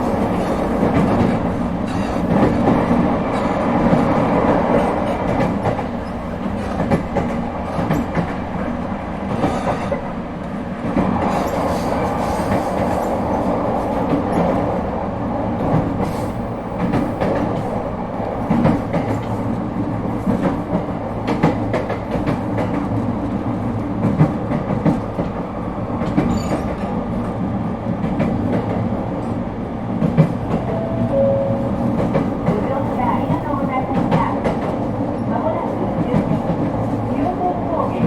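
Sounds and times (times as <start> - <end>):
train wheels rumbling and humming: 0.0 - 38.0.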